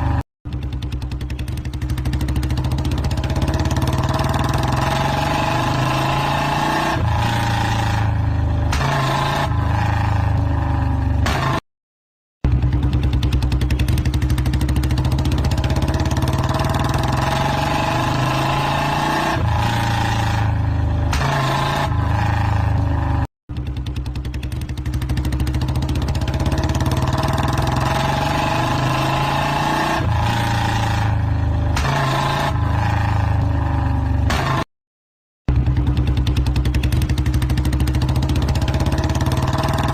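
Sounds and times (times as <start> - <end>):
motorcycle engine running: 0.0 - 11.5, 12.4 - 34.5, 35.5 - 39.9.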